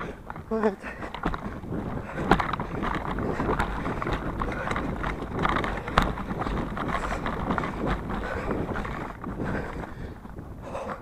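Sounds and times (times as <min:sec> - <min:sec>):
bike rattling and knocking: 0:00.0 - 0:11.0
bike tyres on bumpy trail: 0:00.0 - 0:11.0.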